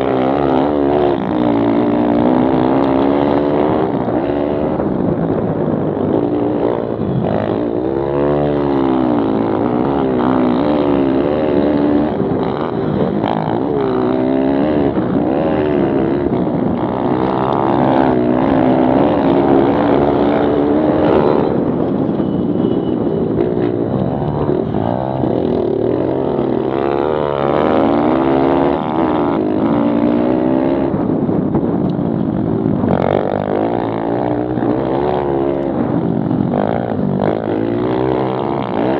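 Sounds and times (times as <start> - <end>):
small motorbike engines revving: 0.0 - 38.9.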